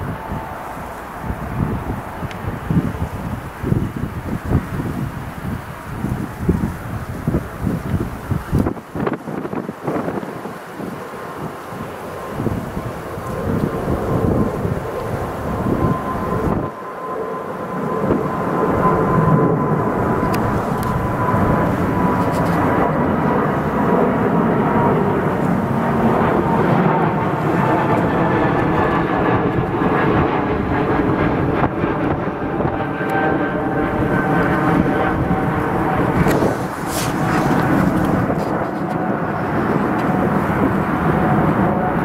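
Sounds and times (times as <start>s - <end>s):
jet airliner passing overhead: 0.0s - 42.0s.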